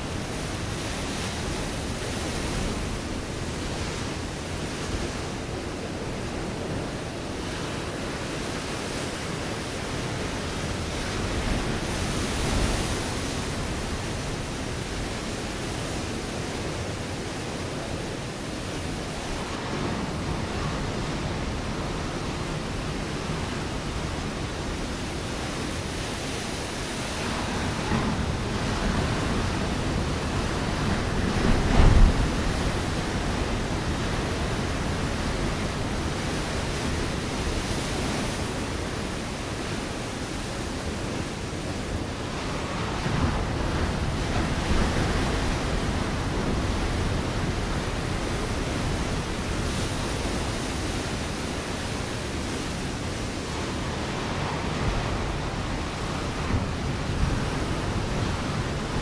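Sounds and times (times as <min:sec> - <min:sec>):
ocean waves on rocky shore: 0:00.0 - 0:59.0.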